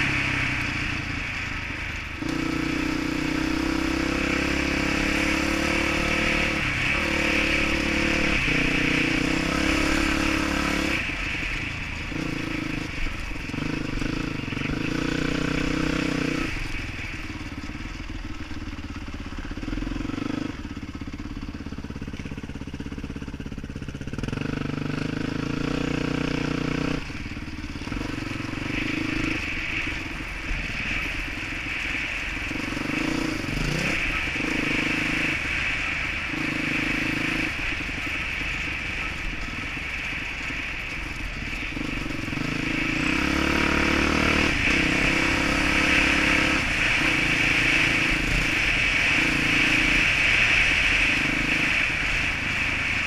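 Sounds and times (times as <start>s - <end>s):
dirt bike engine revving: 2.1s - 11.5s, 12.1s - 16.8s, 24.1s - 53.0s.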